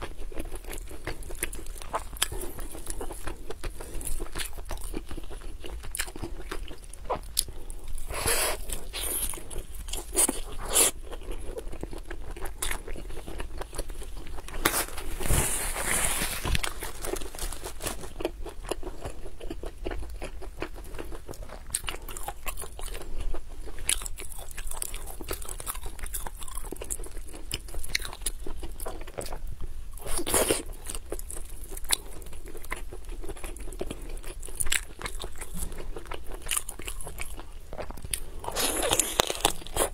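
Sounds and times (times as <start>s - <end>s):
chewing and biting chicken: 0.0s - 15.2s, 16.4s - 29.4s, 30.0s - 39.9s.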